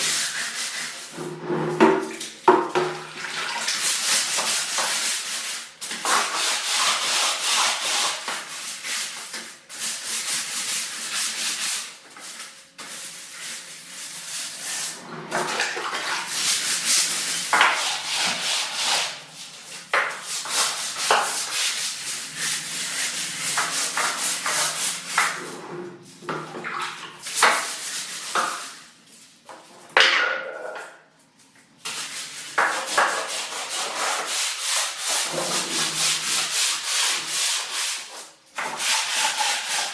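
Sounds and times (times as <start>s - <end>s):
scrubbing brush rubbing surface: 0.0s - 29.8s, 31.8s - 39.9s.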